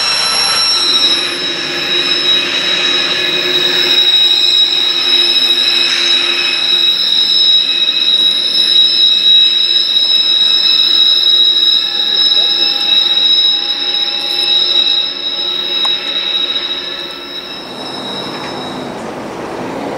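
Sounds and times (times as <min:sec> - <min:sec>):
freight train rolling: 0:00.0 - 0:19.9
train wheels squealing: 0:00.0 - 0:19.9.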